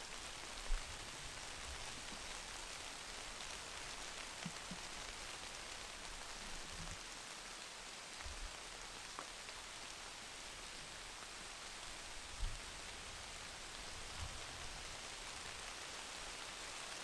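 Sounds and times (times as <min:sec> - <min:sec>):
light rain on leaves: 0:00.0 - 0:17.0.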